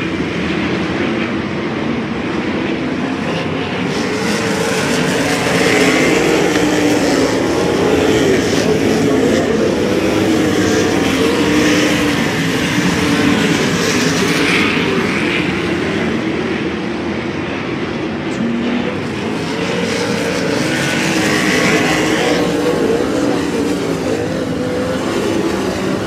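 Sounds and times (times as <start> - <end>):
race car engines racing: 0.0 - 26.0.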